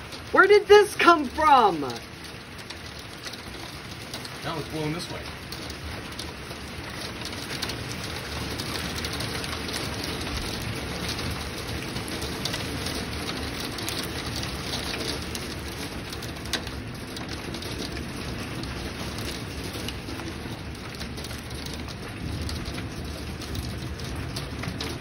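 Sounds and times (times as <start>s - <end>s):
rain and hail pelting wood: 0.0s - 25.0s.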